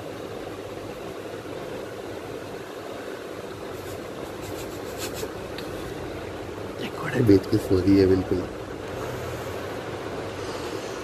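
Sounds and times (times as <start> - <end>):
steady machine noise: 0.0 - 11.0.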